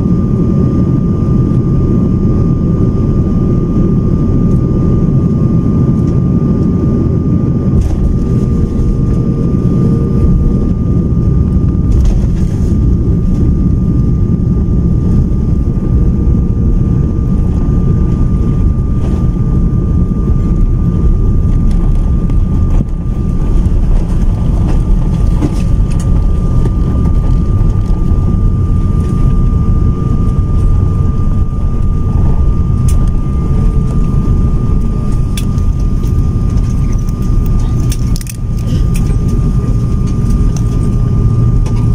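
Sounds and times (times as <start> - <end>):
jet engines rumbling: 0.0 - 41.9
thin steady whine: 0.0 - 41.9.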